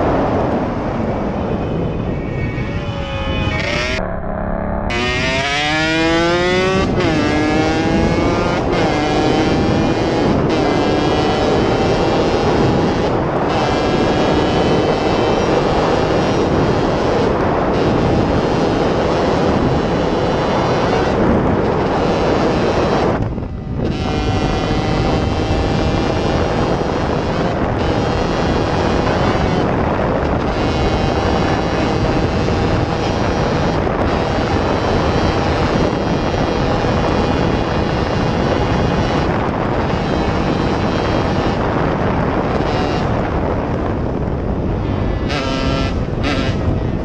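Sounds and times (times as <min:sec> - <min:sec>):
wind and road noise: 0:00.0 - 0:47.0
motorcycle engine accelerating: 0:02.7 - 0:47.0.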